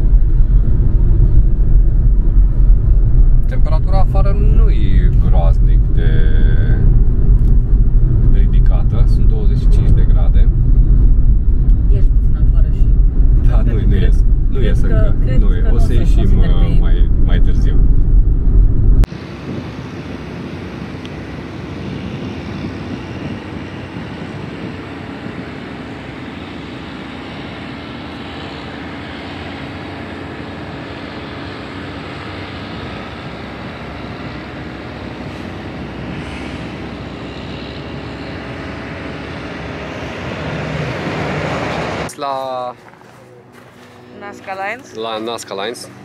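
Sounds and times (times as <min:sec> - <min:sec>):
in-car road rumble: 0:00.0 - 0:42.1
distant motor rumble: 0:00.0 - 0:46.0.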